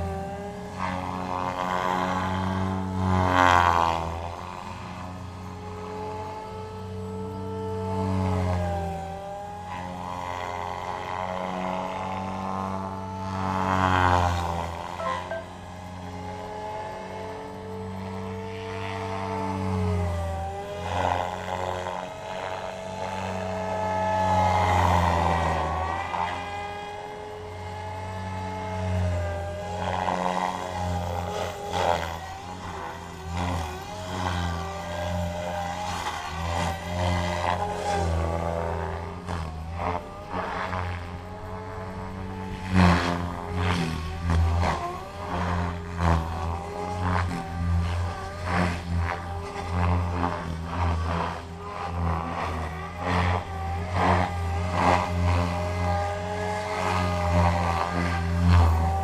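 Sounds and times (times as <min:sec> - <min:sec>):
rc helicopter rotor and motor whine: 0:00.0 - 0:59.0.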